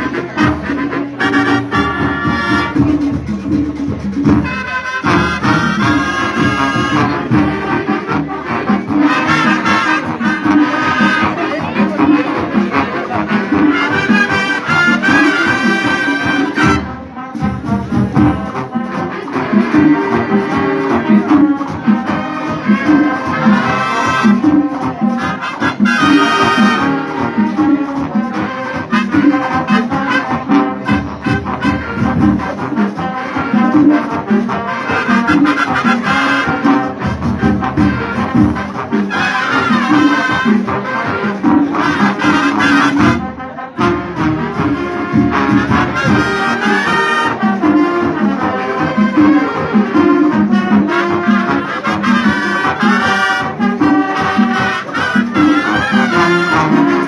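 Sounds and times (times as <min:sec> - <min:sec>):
marching band playing latin music: 0:00.0 - 0:57.0.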